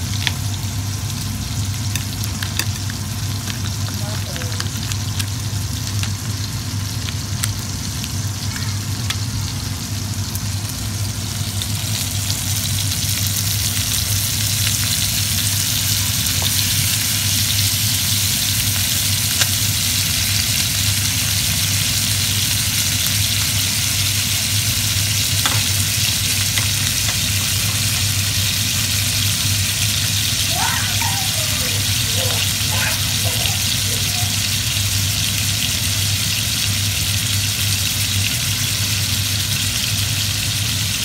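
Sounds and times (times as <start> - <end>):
steaks sizzling in butter: 0.0 - 41.0.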